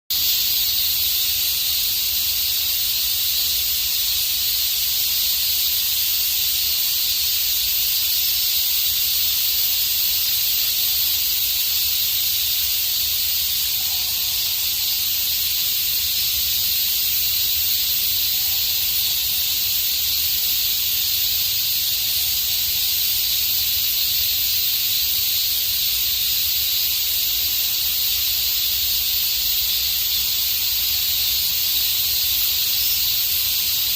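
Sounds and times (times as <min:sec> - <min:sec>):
cicadas buzzing: 0:00.1 - 0:33.9.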